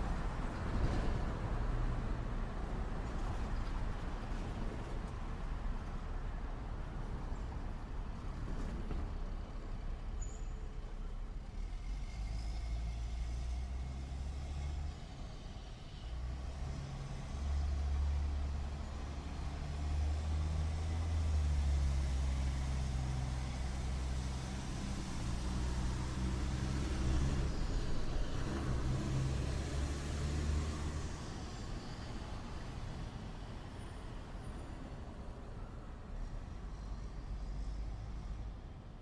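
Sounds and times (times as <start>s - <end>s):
street noise: 0.0s - 39.0s.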